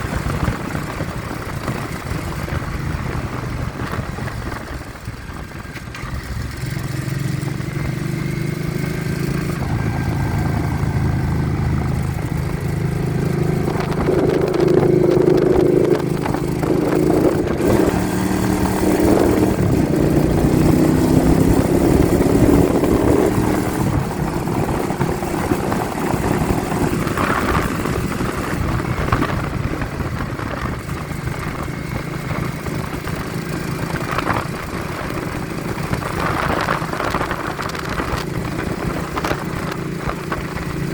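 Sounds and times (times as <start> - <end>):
wind buffeting on microphone: 0.0 - 6.8, 7.7 - 40.9
vehicle engine accelerating: 0.0 - 40.9.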